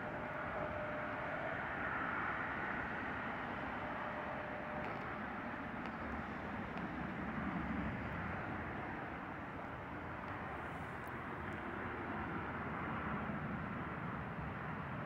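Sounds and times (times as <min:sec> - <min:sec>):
distant jet aircraft passing: 0:00.0 - 0:15.0.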